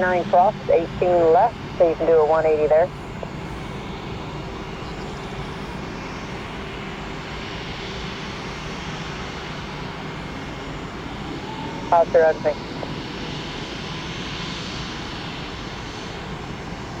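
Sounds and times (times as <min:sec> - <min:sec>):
faint steady hum: 0:00.0 - 0:14.0
distant jet airliner engines: 0:00.0 - 0:17.0.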